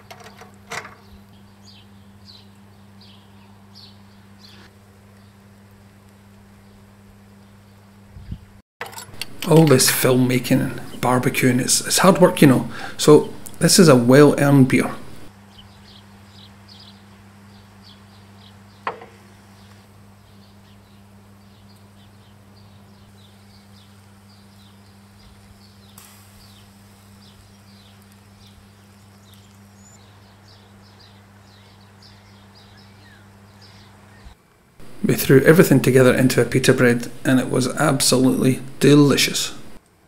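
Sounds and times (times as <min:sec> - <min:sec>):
steady low hum: 0:01.2 - 0:15.3, 0:19.2 - 0:39.8.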